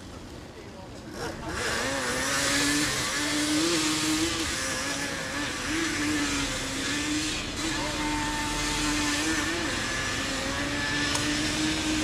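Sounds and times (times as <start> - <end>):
atv engine revving: 1.1 - 12.0.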